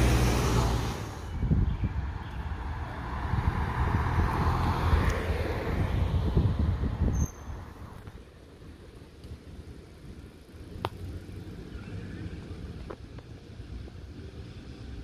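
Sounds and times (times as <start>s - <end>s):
bus approaching: 0.0s - 15.0s
street traffic rumble: 0.0s - 15.0s.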